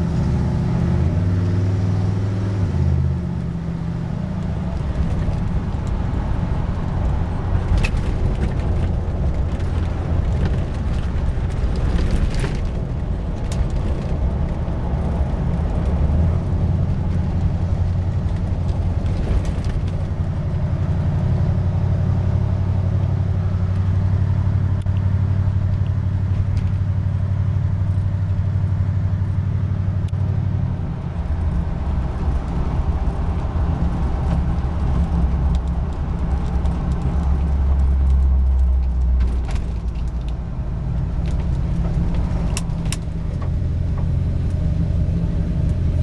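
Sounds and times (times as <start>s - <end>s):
car engine while driving: 0.0s - 46.0s.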